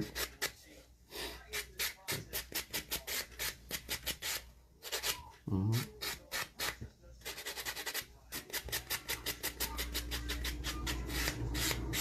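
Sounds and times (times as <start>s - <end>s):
nail file rasping on fingernail: 0.0s - 0.5s, 1.5s - 12.0s.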